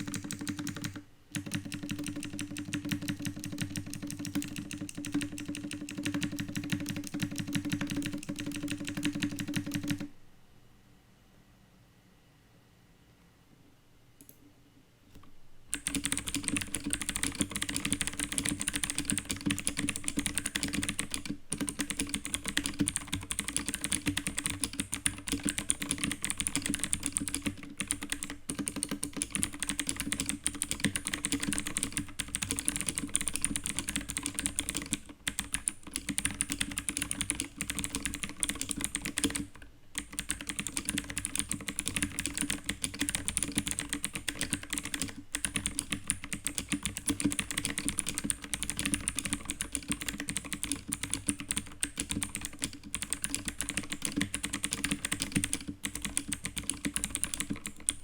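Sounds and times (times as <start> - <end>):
fast mechanical keyboard typing: 0.0 - 10.1, 15.7 - 58.0.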